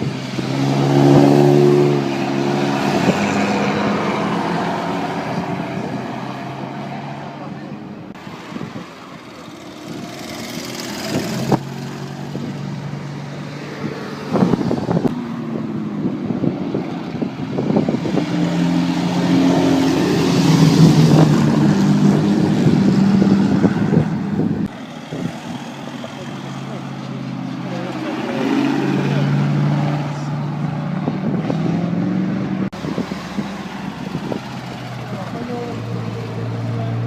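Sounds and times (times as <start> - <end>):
vintage car engines passing: 0.0 - 37.0.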